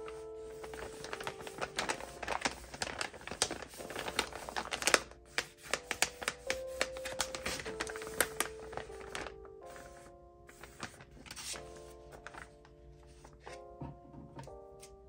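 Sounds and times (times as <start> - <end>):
background music: 0.0 - 15.0
paper crinkling and rustling: 0.0 - 15.0.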